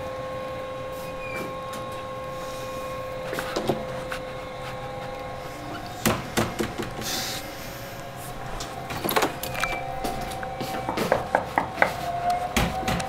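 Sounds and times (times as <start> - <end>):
steady humming drone: 0.0 - 13.0.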